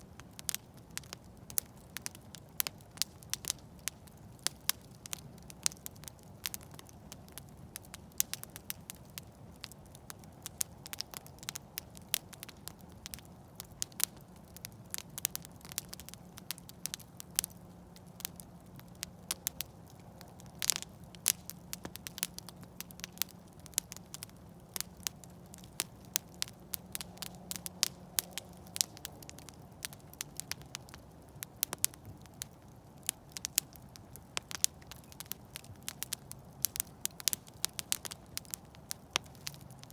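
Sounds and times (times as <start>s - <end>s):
campfire pops and snaps: 0.2s - 39.9s.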